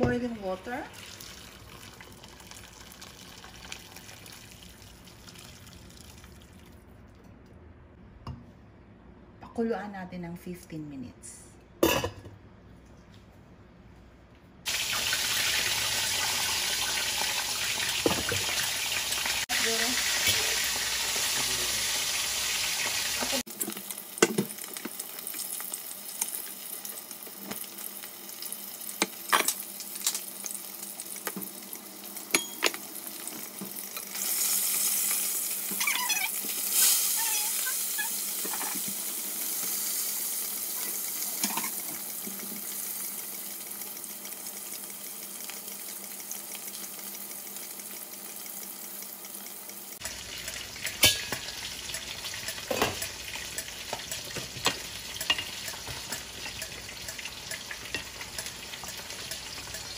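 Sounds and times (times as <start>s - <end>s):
broth boiling in a pot: 0.0s - 6.8s, 14.6s - 59.9s.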